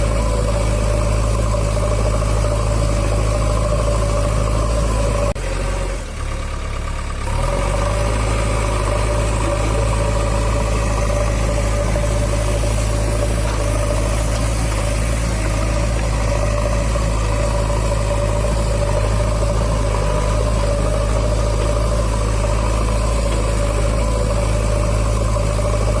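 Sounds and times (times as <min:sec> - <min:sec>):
engine idling hum: 0:00.0 - 0:26.0.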